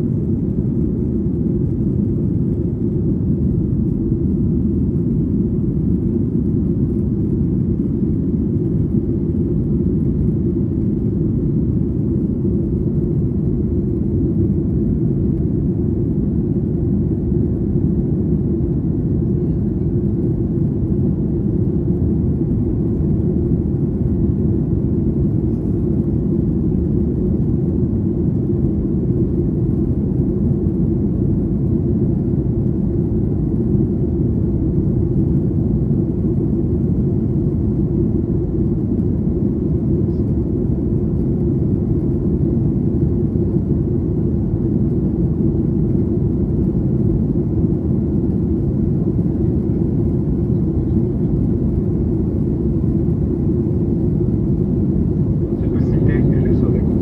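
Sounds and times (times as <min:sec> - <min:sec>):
airplane cabin engine rumble: 0:00.0 - 0:57.0
constant hum: 0:00.0 - 0:57.0.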